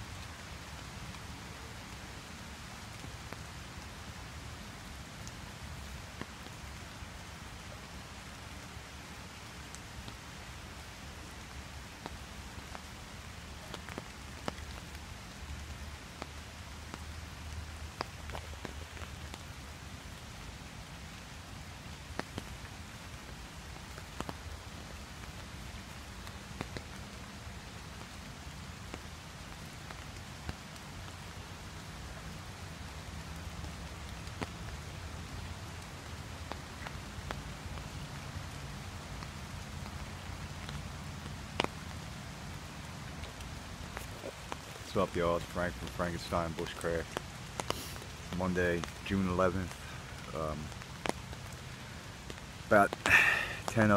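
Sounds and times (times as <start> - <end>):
rain falling on river and leaves: 0.0 - 53.9
raindrops ticking on umbrella: 0.0 - 53.9.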